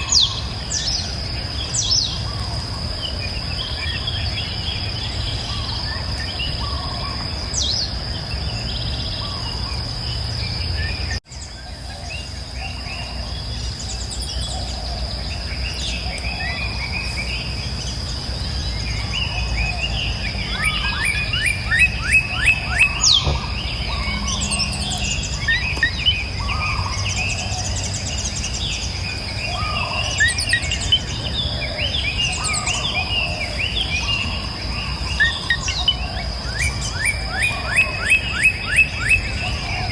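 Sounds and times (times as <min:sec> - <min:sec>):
birds chirping and singing: 0:00.0 - 0:39.9
high insect drone: 0:00.0 - 0:39.9.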